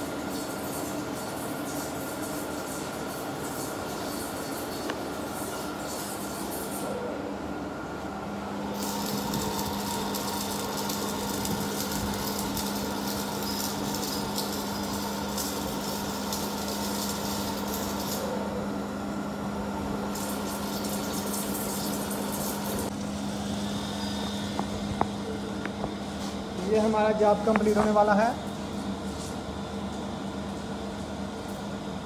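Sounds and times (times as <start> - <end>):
machine humming: 0.0 - 32.0.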